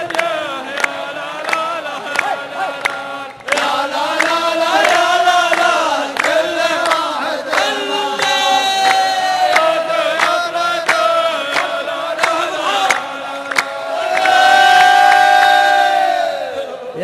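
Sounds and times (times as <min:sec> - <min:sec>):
voices chanting in chorus: 0:00.0 - 0:17.0.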